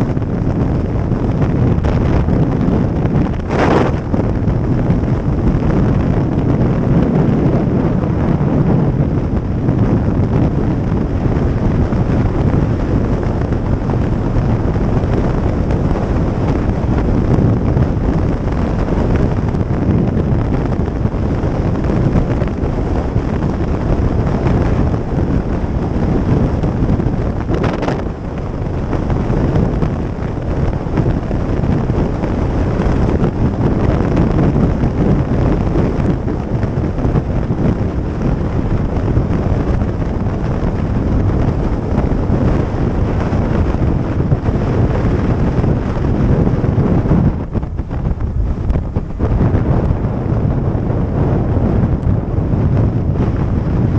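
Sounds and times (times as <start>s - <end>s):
motorcycle running: 0.0s - 53.9s
road noise: 0.0s - 53.9s
wind noise on microphone: 0.0s - 53.9s.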